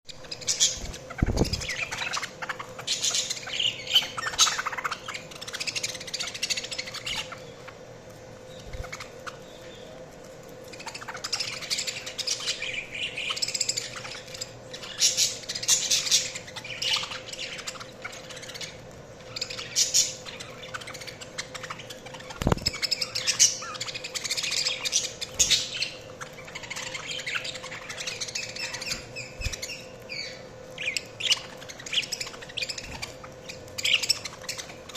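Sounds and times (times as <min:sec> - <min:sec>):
budgerigars chirping and warbling: 0:00.1 - 0:07.8, 0:08.4 - 0:10.0, 0:10.6 - 0:34.9
faint steady hum: 0:00.1 - 0:34.9.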